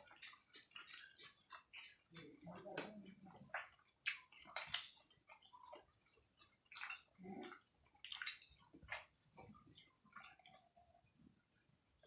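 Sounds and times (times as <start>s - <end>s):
wet chewing and slurping: 0.0s - 10.7s.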